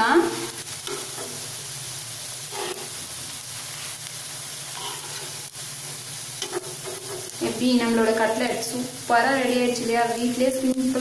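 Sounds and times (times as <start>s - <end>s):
cutlets sizzling in pan: 0.0s - 11.0s.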